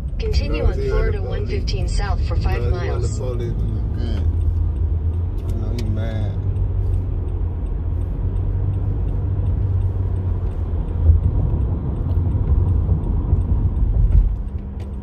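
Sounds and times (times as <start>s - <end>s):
car interior road noise: 0.0s - 15.0s.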